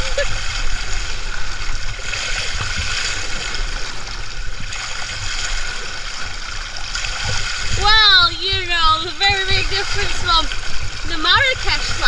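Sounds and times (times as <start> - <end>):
low bumps: 0.0 - 12.0
water rushing down slide: 0.0 - 12.0.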